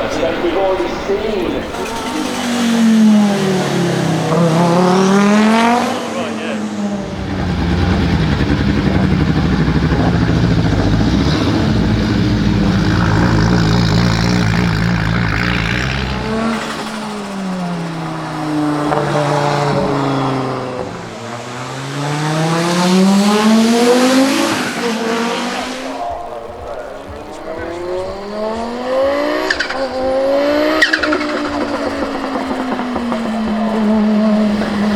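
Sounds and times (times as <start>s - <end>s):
racecar engine revving: 0.0s - 34.9s.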